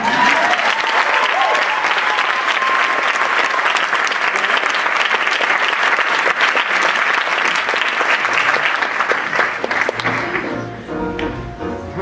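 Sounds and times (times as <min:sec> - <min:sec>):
audience clapping: 0:00.0 - 0:10.8.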